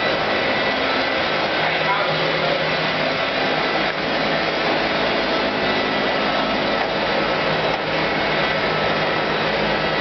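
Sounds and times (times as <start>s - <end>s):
motor whirring with rushing air: 0.0s - 10.0s.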